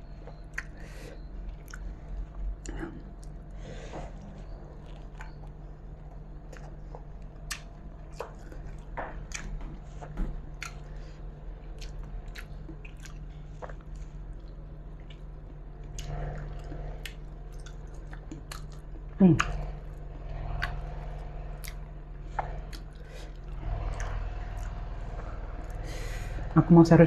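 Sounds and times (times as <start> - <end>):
person chewing food: 0.0 - 26.5
steady low hum: 0.0 - 27.0.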